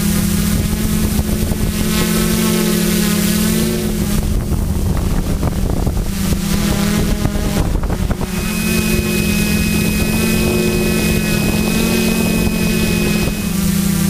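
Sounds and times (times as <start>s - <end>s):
drone propellers humming: 0.0s - 14.0s
thin high whine: 0.0s - 14.0s.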